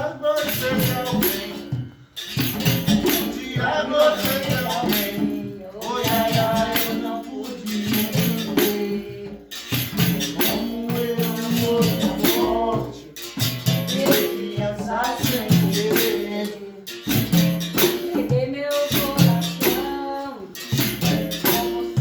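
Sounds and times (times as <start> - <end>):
berimbau struck in rhythm: 0.0 - 22.0
shaker rattling: 0.0 - 22.0
singing: 0.0 - 22.0.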